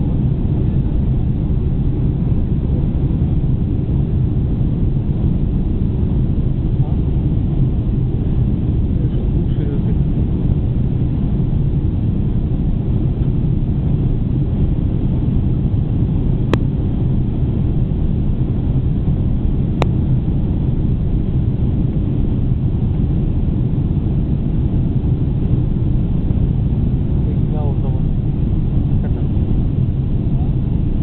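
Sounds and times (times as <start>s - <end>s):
airplane cabin engine roar: 0.0s - 31.0s.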